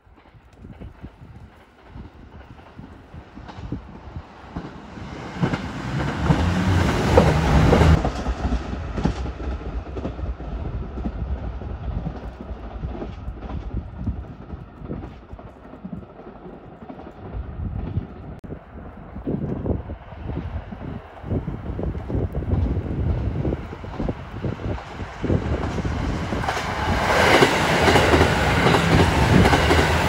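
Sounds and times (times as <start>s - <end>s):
train wheels clacking on rail joints: 0.1s - 18.2s, 23.9s - 30.0s
diesel train engines passing: 1.0s - 30.0s.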